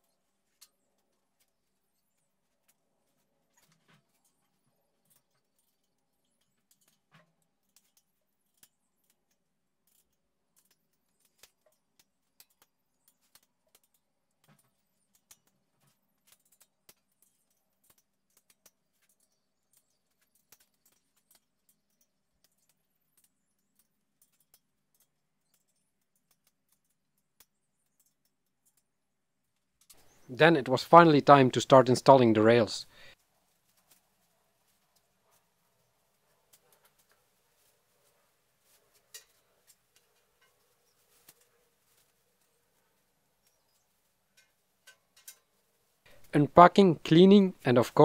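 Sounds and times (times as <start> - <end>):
metal parts clicking and tapping: 0.0 - 30.3, 33.5 - 46.3.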